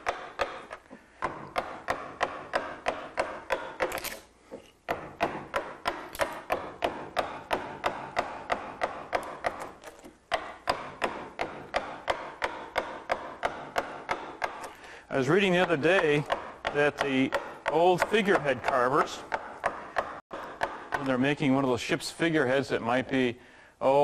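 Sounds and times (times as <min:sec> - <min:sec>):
mallet tapping carving gouge: 0:00.0 - 0:21.6.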